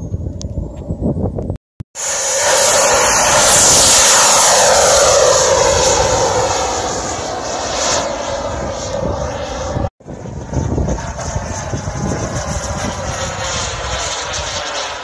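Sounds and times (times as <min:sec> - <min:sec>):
model jet whine and rush: 0:02.0 - 0:15.0.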